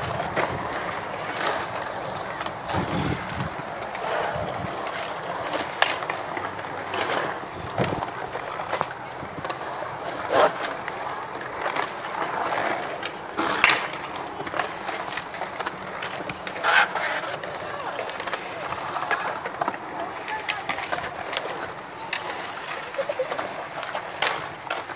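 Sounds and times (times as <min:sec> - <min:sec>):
skateboard knocks: 0:00.0 - 0:09.7, 0:10.3 - 0:24.9
skateboard wheels rolling on concrete: 0:00.0 - 0:24.9.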